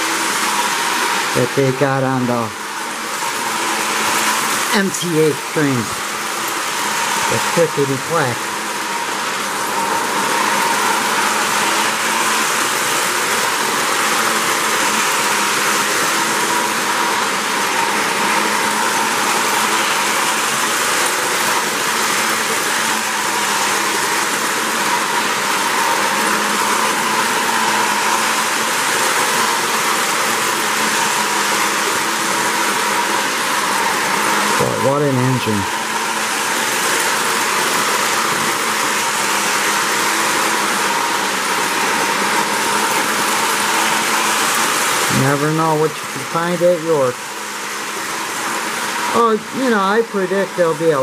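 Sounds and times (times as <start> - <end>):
model train wheels rolling on rails: 0.0 - 51.0.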